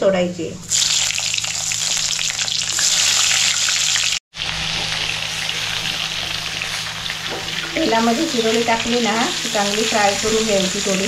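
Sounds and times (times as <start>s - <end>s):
food sizzling in hot oil: 0.6s - 11.0s.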